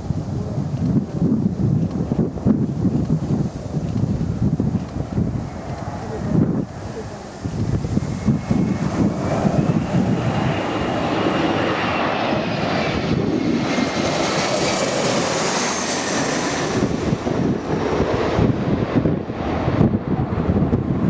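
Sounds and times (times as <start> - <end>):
airliner engine roar and whine: 0.0 - 21.0
wind buffeting microphone: 0.0 - 21.0.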